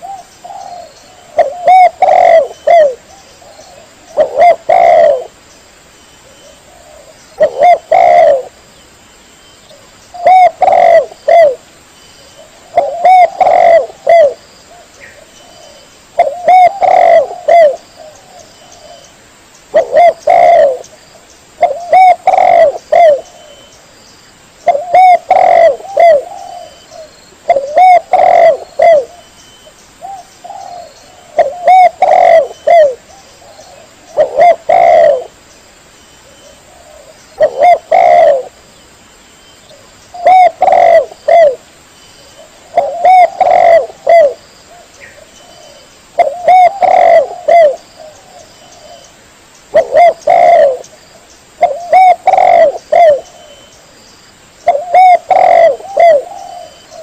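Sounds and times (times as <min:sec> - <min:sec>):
dove cooing: 0:00.0 - 0:05.4, 0:06.2 - 0:08.6, 0:09.7 - 0:11.6, 0:12.3 - 0:19.1, 0:19.7 - 0:20.9, 0:21.6 - 0:23.7, 0:24.6 - 0:29.3, 0:30.0 - 0:35.4, 0:36.2 - 0:38.6, 0:39.7 - 0:41.6, 0:42.3 - 0:49.1, 0:49.7 - 0:51.0, 0:51.6 - 0:53.7, 0:54.6 - 0:57.0.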